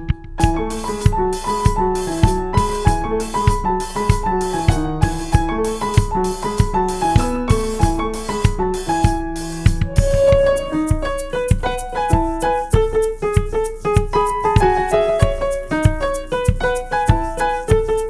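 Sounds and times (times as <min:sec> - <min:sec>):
piano melody: 0:00.0 - 0:18.0
steady drum beat: 0:00.0 - 0:18.0.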